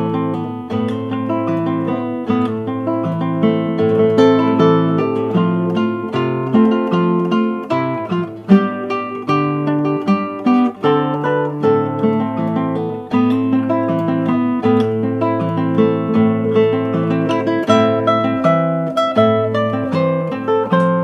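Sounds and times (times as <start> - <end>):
acoustic guitar plucked notes: 0.0 - 21.0.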